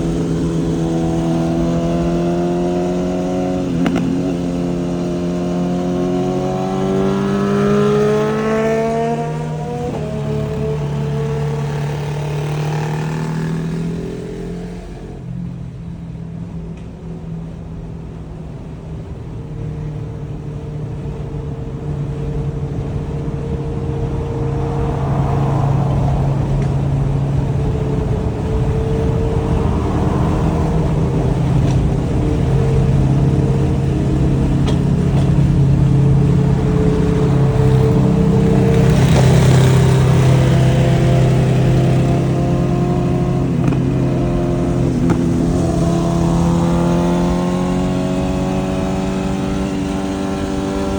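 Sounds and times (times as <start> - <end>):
motorcycle engine and exhaust: 0.0 - 50.9.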